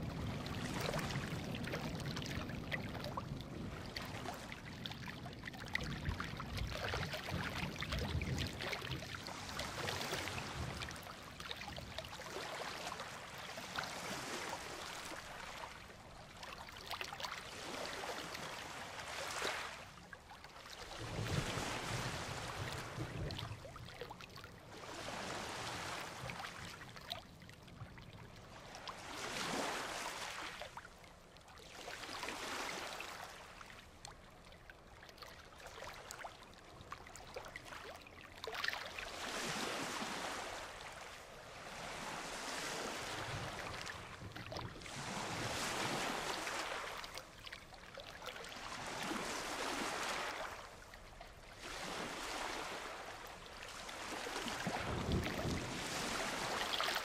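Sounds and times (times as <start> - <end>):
waves breaking on beach: 0.0 - 34.0, 37.1 - 57.0.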